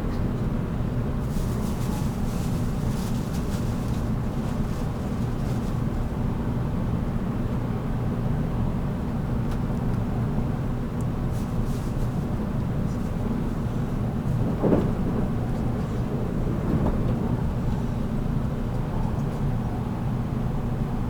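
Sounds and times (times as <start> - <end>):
train wheels rumbling on rails: 0.0 - 7.2, 9.1 - 21.0.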